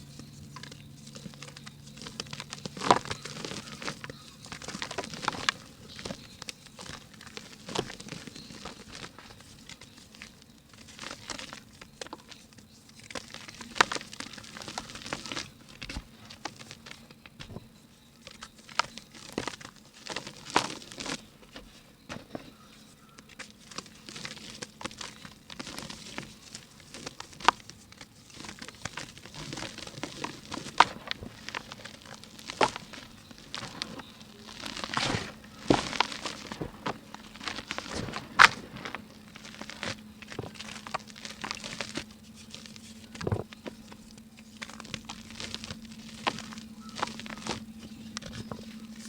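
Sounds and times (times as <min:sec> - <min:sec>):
dry mud crumbling and cracking: 0:00.0 - 0:49.0.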